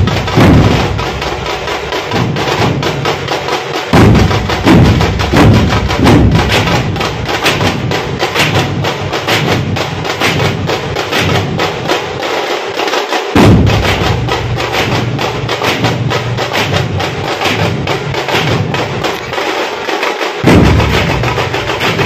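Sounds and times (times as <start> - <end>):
barrel drums beaten with sticks: 0.0 - 22.0.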